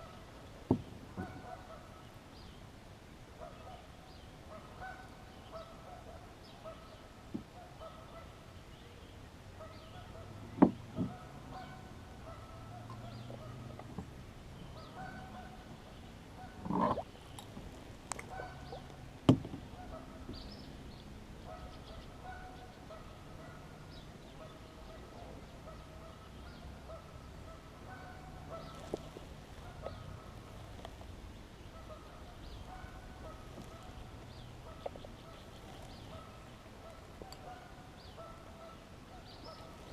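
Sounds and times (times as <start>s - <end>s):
birds calling: 0.0s - 2.7s, 3.3s - 39.9s.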